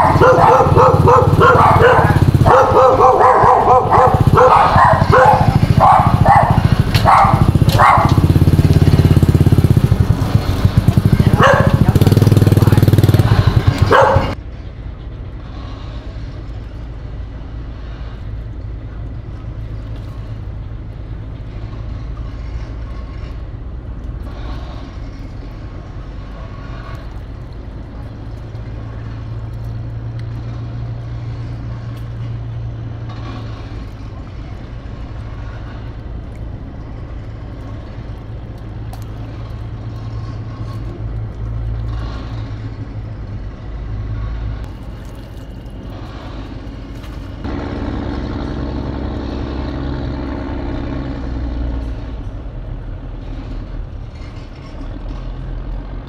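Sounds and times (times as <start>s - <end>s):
distant traffic rumble: 0.0s - 56.0s.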